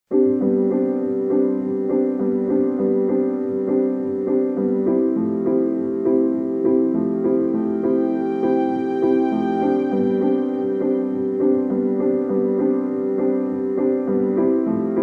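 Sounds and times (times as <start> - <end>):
background piano music: 0.1 - 15.0.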